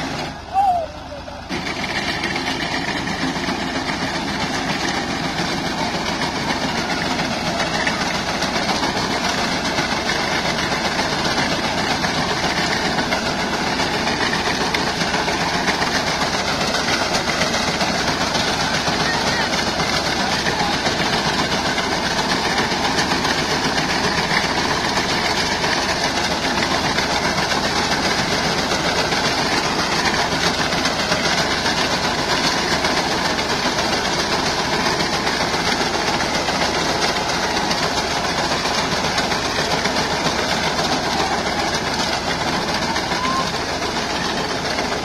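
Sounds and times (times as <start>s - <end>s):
tractor engine under load: 0.0s - 45.0s.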